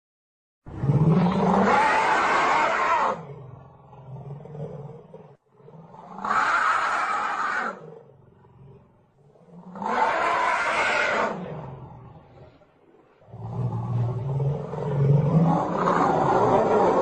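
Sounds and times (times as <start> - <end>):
monster roars: 0.7 - 12.4, 13.3 - 17.0
low growl: 0.7 - 17.0.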